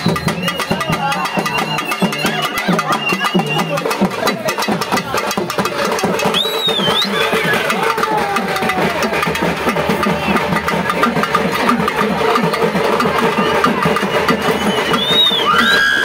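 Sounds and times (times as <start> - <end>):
dense crowd noise: 0.0 - 16.0
fast hand drumming: 0.0 - 16.0.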